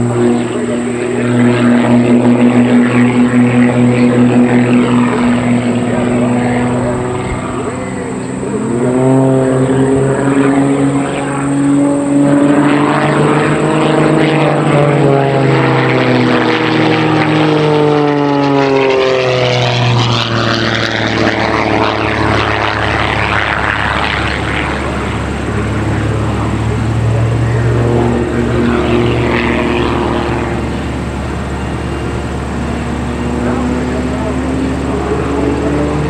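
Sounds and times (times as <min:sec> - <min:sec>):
propeller plane engines: 0:00.0 - 0:36.0.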